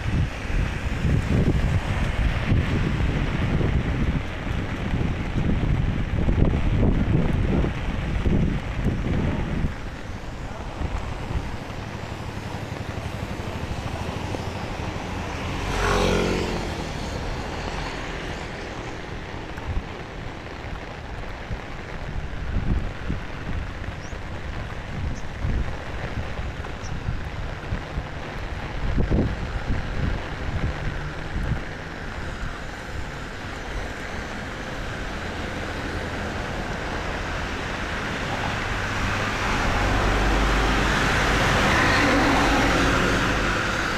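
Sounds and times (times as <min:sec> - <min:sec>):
heavy rain: 0:00.0 - 0:43.9
vehicle passing on wet road: 0:00.0 - 0:43.9
wind gusts buffeting microphone: 0:00.0 - 0:43.9.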